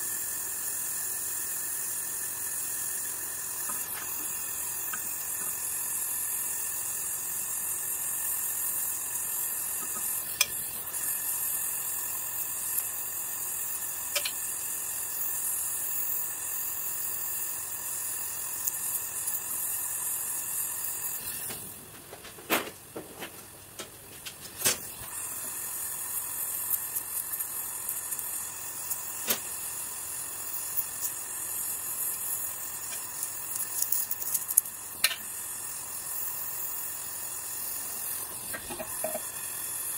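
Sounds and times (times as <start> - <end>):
gas torch flame hissing: 0.0 - 22.0, 23.4 - 39.9.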